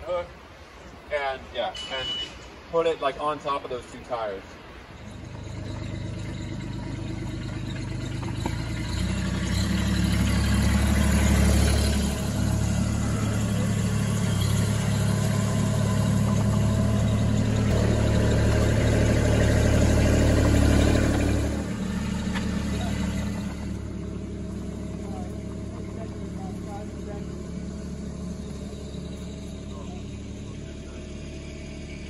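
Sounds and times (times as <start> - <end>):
tracked loader engine running: 4.6 - 32.0.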